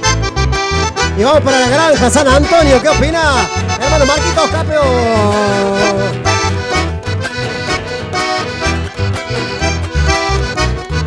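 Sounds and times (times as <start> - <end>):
accordion melody: 0.0 - 11.0
guitars: 0.0 - 11.0
steady bass beat: 0.0 - 11.0.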